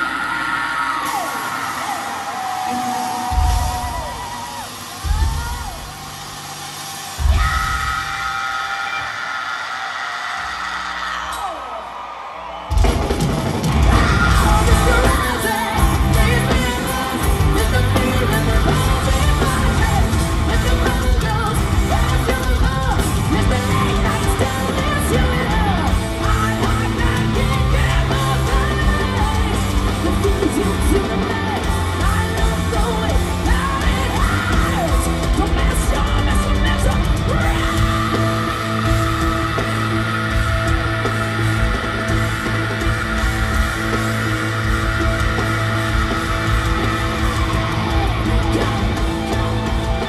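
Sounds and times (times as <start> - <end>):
hard rock band playing: 0.0 - 50.0.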